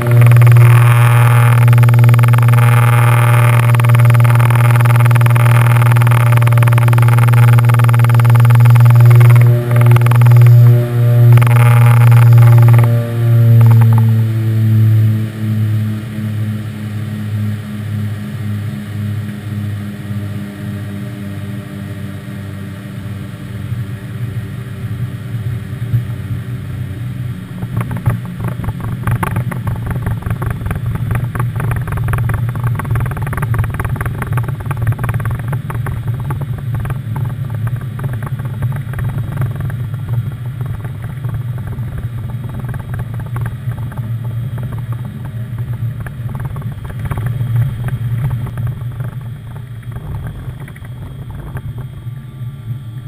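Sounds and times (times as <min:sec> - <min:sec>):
buzzing rattle: 0:00.0 - 0:16.5, 0:26.6 - 0:53.0
aircraft engines droning: 0:00.0 - 0:53.0.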